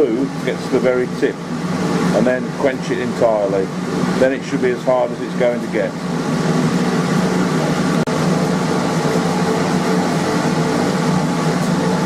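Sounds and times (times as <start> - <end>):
forge blower humming: 0.0 - 12.0.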